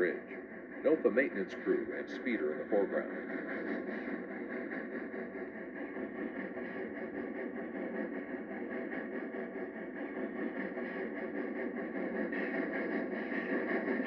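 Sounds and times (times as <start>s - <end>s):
steam locomotive working: 0.0s - 14.0s.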